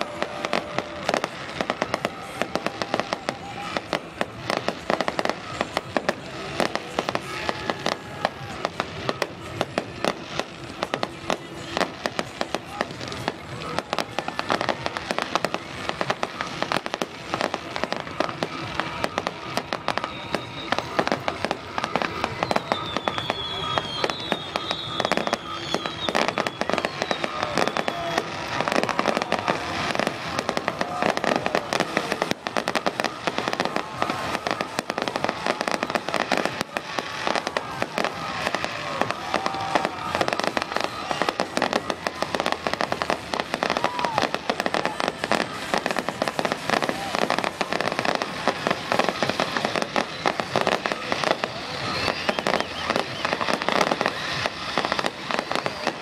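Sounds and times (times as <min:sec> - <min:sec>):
fireworks bangs and crackles: 0:00.0 - 0:56.0
fireworks whistles: 0:00.0 - 0:56.0.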